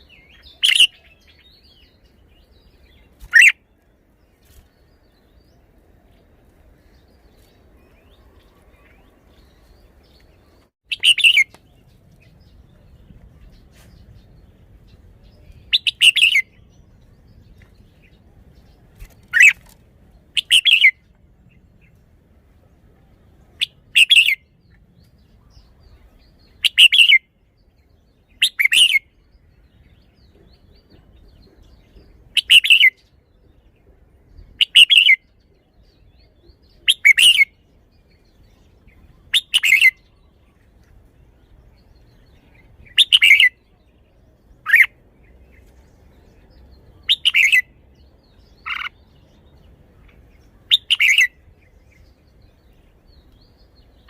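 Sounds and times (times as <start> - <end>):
bird singing chirpy phrases: 0.0 - 54.0.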